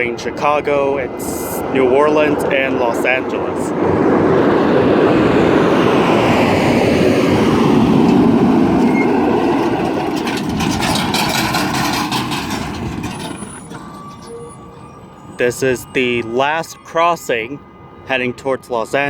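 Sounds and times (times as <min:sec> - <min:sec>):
heavy vehicle passing: 0:00.0 - 0:18.4.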